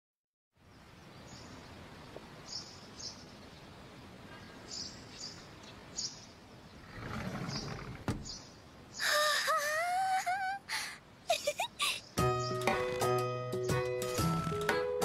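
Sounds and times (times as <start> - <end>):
steady outdoor hiss: 0.5 - 15.0
small birds chirping: 0.6 - 10.3, 11.3 - 14.0.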